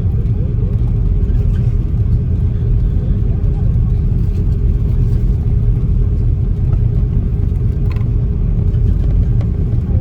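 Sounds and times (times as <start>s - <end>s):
aircraft engines low rumble: 0.0s - 10.0s.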